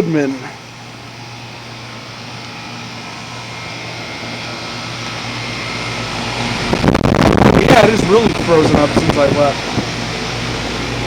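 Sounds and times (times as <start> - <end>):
heat pump fan and compressor hum: 0.0 - 11.0.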